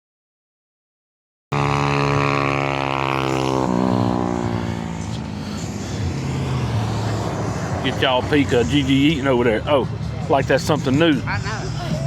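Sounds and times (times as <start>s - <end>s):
car engine running: 1.5s - 12.0s.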